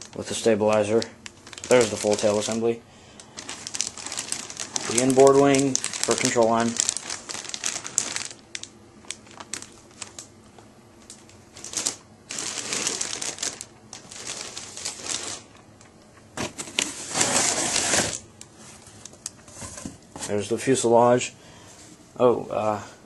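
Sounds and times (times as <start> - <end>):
plastic wrapping rustling: 0.0 - 20.5.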